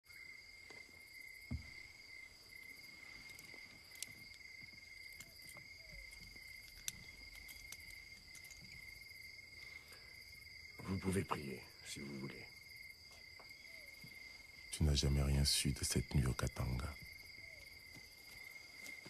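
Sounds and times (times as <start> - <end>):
crickets trilling: 0.1 - 19.0.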